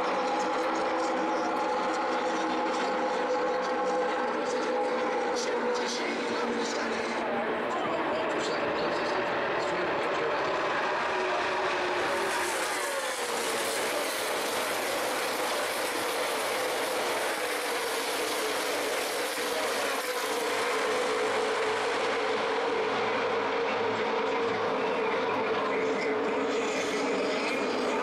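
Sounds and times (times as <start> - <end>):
race cars passing: 0.0 - 28.0.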